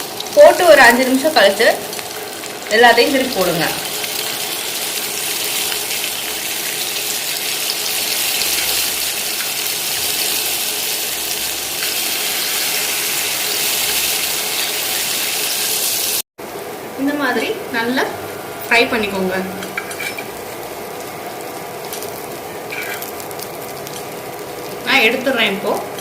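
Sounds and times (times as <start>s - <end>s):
fish sizzling in oil: 0.0s - 16.6s, 19.4s - 26.0s.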